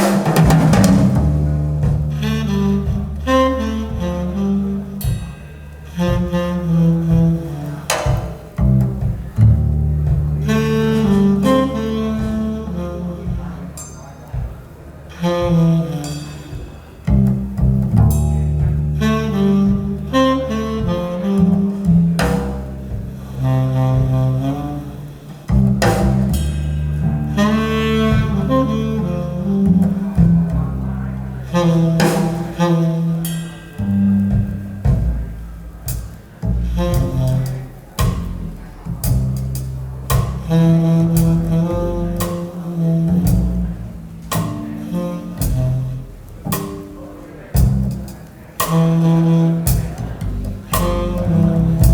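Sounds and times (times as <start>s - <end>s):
double bass plucked and bowed: 0.0s - 51.9s
jazz music over loudspeakers: 0.0s - 51.9s.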